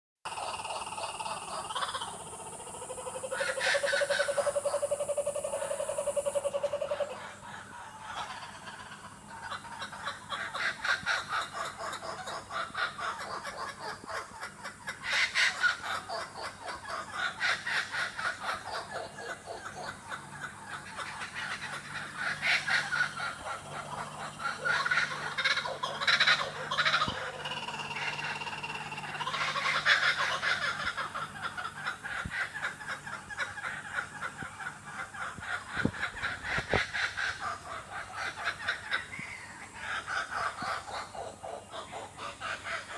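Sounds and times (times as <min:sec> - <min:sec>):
kookaburras laughing: 0:00.3 - 0:42.9.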